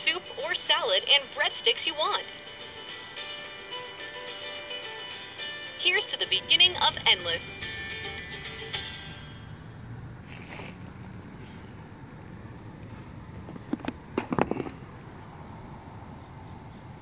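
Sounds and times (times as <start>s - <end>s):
outdoor background hum: 0.0s - 17.0s.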